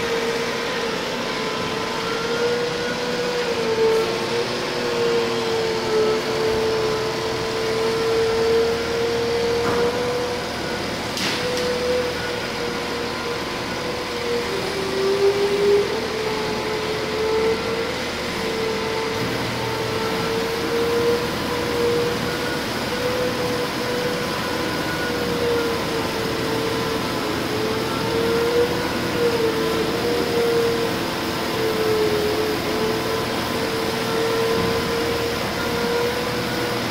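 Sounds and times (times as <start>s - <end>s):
mechanical hum: 0.0s - 36.9s.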